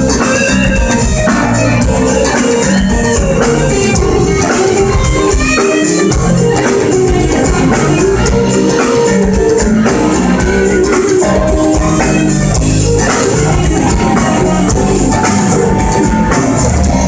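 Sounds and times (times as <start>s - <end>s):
live blues band playing: 0.0s - 17.0s.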